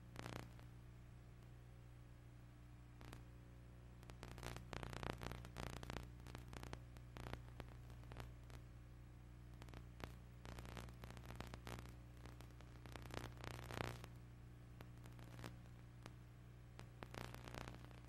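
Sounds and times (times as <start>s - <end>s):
crackles and clicks: 0.0s - 1.6s, 2.9s - 18.0s
faint electrical hum: 0.0s - 18.0s.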